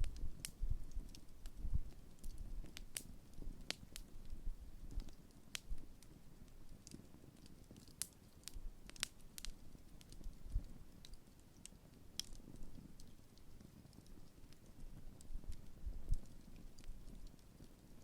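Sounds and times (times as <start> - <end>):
campfire crackling and popping: 0.0 - 18.0
low rumble of fire: 0.0 - 18.0.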